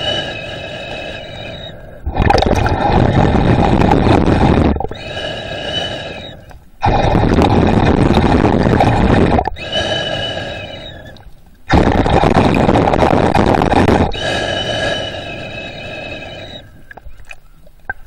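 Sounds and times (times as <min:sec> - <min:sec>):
faint high whine: 0:00.0 - 0:17.6
underwater bubbling breaths: 0:00.0 - 0:18.0.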